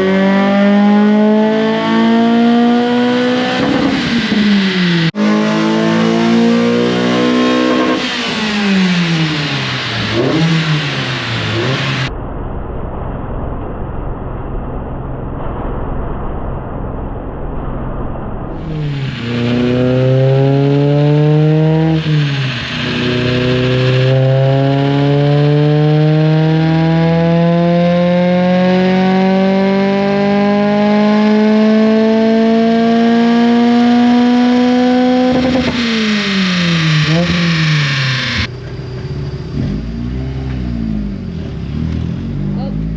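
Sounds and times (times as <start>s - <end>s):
car engine revving: 0.0s - 12.2s, 18.5s - 42.9s.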